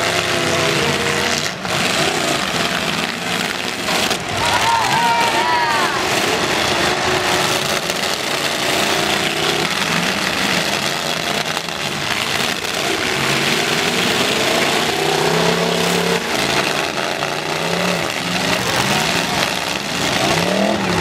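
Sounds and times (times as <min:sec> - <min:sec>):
dense steady din: 0:00.0 - 0:21.0
truck engines revving: 0:00.0 - 0:21.0.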